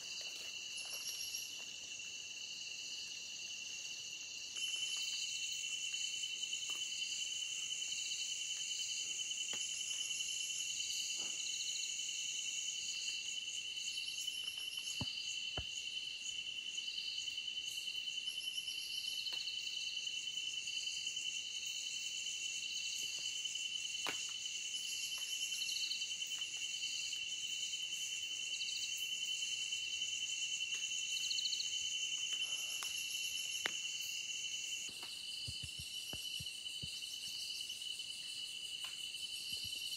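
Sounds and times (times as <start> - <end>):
crickets trilling: 0.0 - 39.9
pulsing insect chirps: 0.0 - 39.9.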